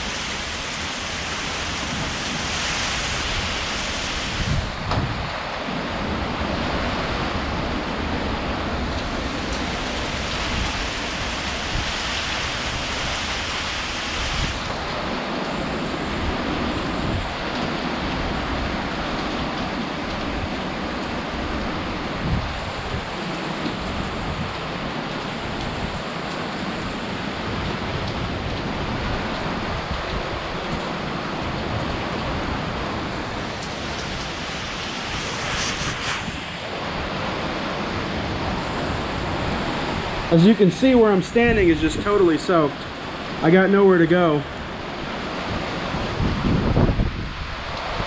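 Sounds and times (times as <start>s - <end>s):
strong gusting wind: 0.0s - 48.0s
torrential rain: 0.0s - 48.0s.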